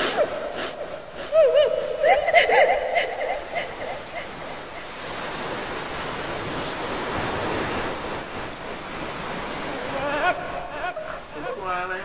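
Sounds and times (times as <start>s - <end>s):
ocean surf rushing: 0.0s - 12.0s.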